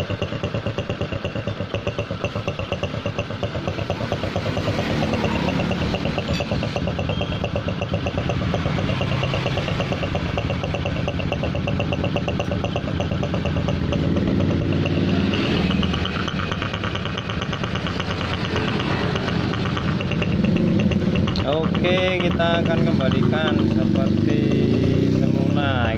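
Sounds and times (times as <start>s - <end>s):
motorcycle engine idling roughly: 0.0s - 25.9s.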